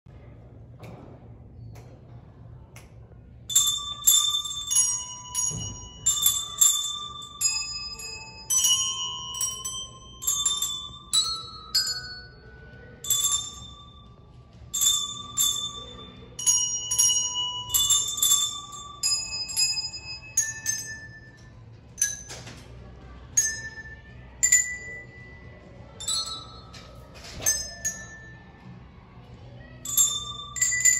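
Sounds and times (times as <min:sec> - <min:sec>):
handbells playing a tune: 0:03.5 - 0:22.6, 0:23.3 - 0:28.8, 0:29.8 - 0:30.9.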